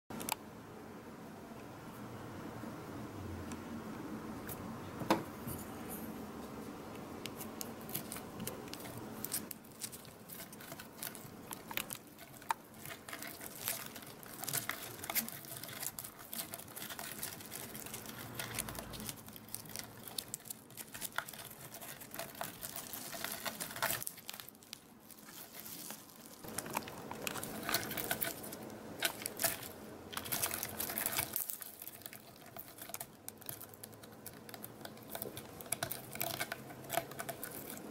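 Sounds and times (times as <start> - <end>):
beetles scratching and clicking: 7.2 - 37.9.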